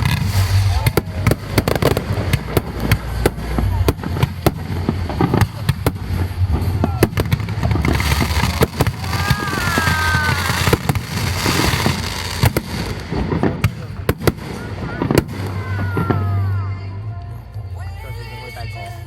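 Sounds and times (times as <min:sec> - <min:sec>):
fireworks crackling hiss: 0:00.0 - 0:16.6
fireworks bangs: 0:00.0 - 0:16.7.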